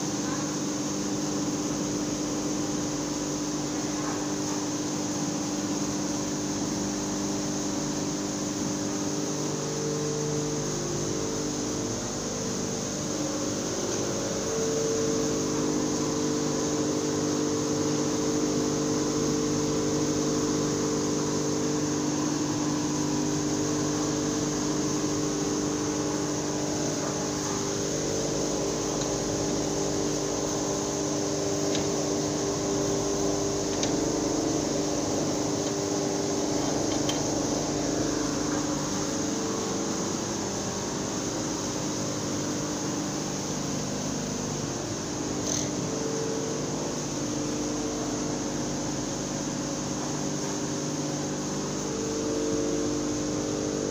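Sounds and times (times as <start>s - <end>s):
mill machinery humming: 0.0s - 53.9s.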